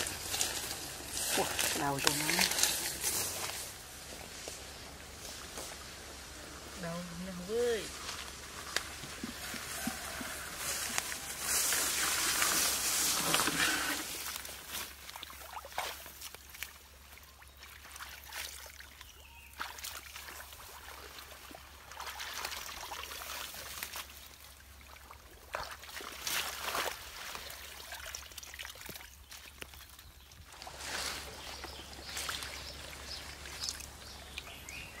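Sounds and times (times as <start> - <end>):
muddy water splashing: 0.0 - 4.0, 4.7 - 35.0
leaves rustling: 0.0 - 18.9, 25.7 - 35.0.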